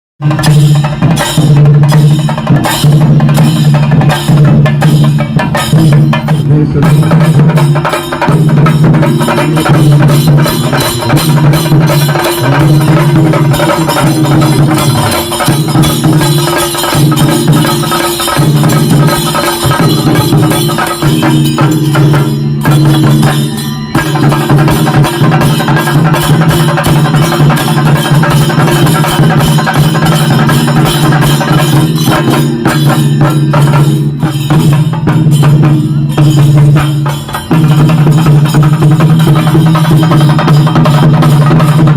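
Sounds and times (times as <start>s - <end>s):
clashing cymbals: 0.2s - 41.9s
drums beaten in fast rhythm: 0.2s - 41.9s.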